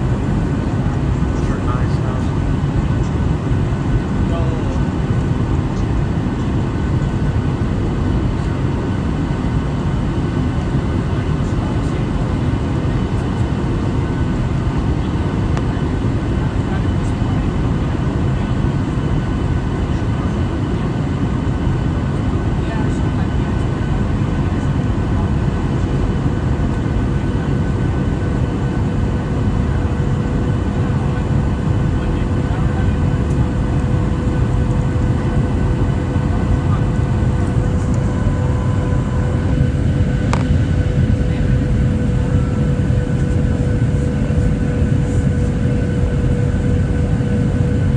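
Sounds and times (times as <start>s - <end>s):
airflow over fuselage: 0.0s - 47.9s
jet engines rumbling in cabin: 0.0s - 47.9s.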